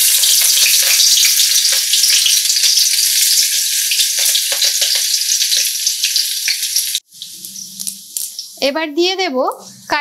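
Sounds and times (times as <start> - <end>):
food sizzling in hot oil: 0.0 - 8.8.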